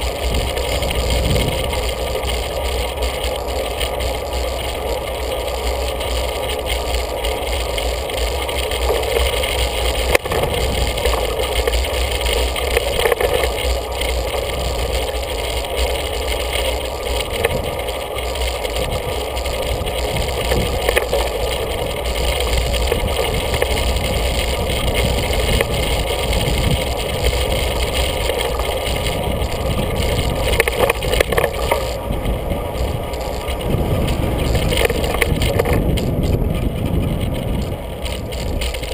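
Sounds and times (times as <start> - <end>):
bicycle clicks and rattles: 0.0 - 38.9
wind and road noise: 0.0 - 38.9.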